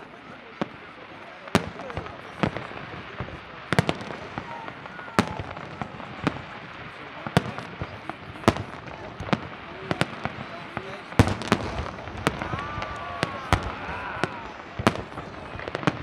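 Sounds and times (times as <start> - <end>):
background hubbub: 0.0 - 16.0
fireworks bursting: 0.0 - 16.0.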